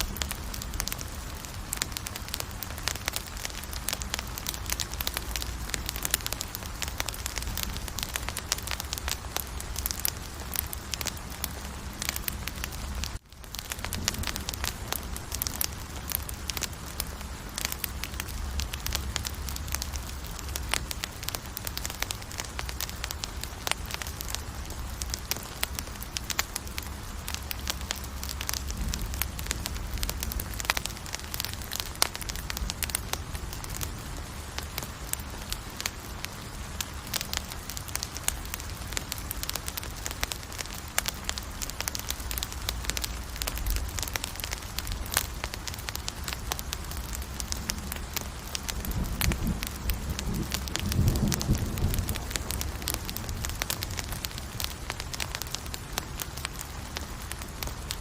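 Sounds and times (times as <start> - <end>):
campfire crackling and popping: 0.0 - 58.0
low rumble of flames: 0.0 - 58.0.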